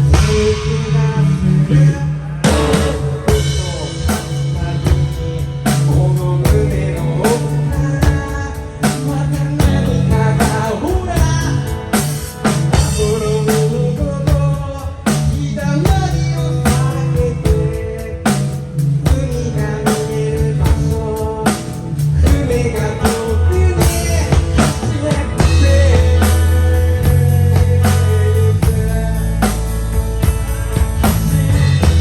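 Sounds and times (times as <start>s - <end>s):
drum kit beat: 0.0s - 1.3s, 2.4s - 32.0s
person singing: 0.0s - 30.0s
rock band playing: 0.0s - 32.0s.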